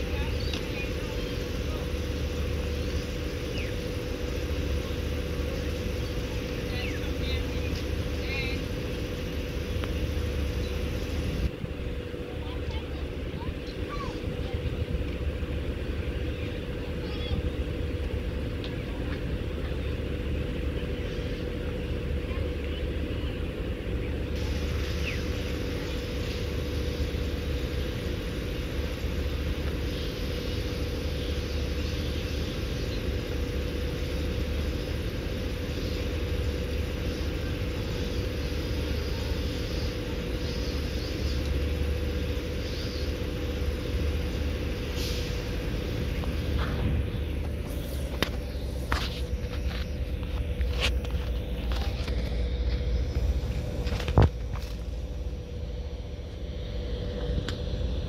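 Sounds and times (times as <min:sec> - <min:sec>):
constant mid-pitched hum: 0:00.0 - 0:58.0
train equipment low rumble: 0:00.0 - 0:58.0.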